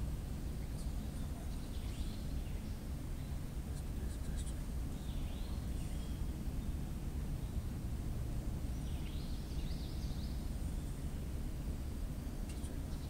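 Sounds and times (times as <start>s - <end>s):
low steady rumble: 0.0s - 13.0s
bird chirping: 0.4s - 7.8s, 8.6s - 11.2s, 11.8s - 13.0s.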